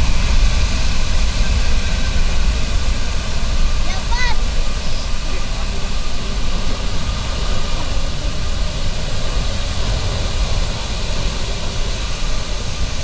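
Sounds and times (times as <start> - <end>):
faint engine whine: 0.0 - 13.0
jet engines rumbling: 0.0 - 13.0.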